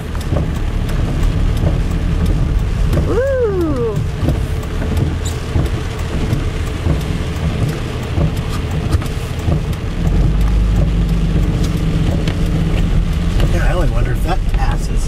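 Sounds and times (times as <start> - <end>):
deep low rumble: 0.0 - 15.0
heavy rain on truck windshield: 0.0 - 15.0.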